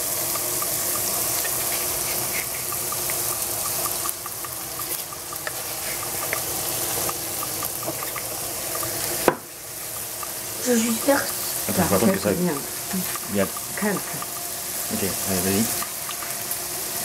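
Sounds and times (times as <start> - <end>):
food frying with pops: 0.0 - 17.0.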